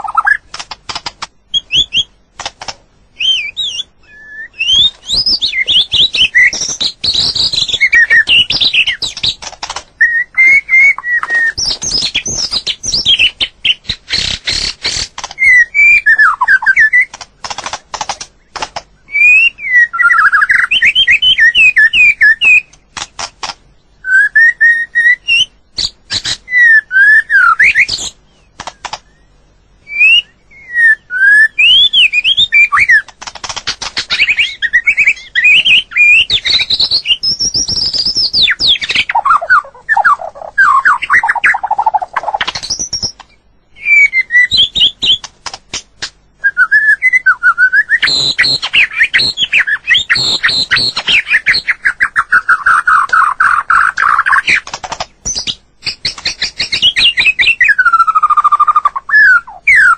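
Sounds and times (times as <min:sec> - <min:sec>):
songbird whistling and rasping: 0:00.0 - 0:00.6, 0:01.5 - 0:02.2, 0:03.1 - 0:17.2, 0:19.0 - 0:23.3, 0:24.0 - 0:33.2, 0:33.8 - 0:45.3, 0:46.4 - 0:59.9.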